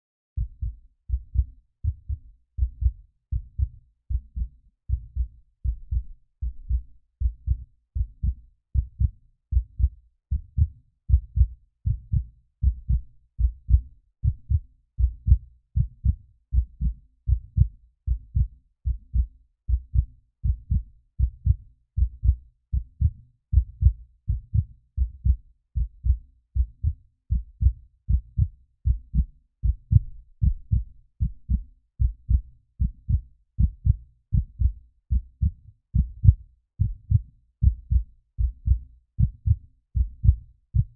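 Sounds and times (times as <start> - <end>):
muffled heartbeat thumps: 0.4 - 40.9.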